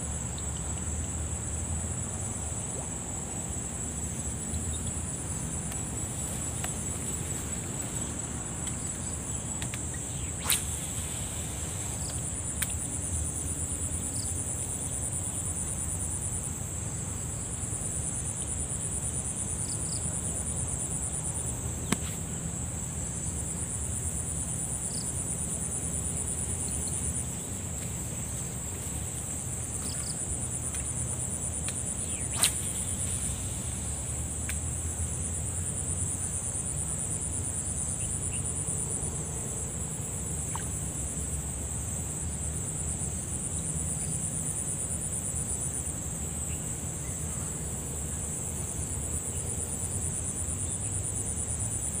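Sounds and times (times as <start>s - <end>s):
high-pitched insect chorus: 0.0s - 52.0s.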